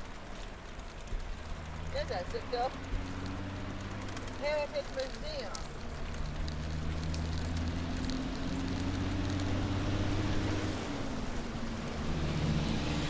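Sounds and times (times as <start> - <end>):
tyres rolling on pavement: 0.0 - 13.0.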